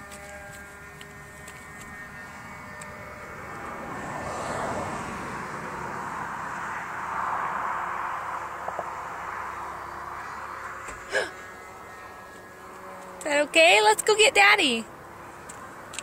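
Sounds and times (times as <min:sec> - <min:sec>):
model airplane engine drone: 0:00.0 - 0:16.0.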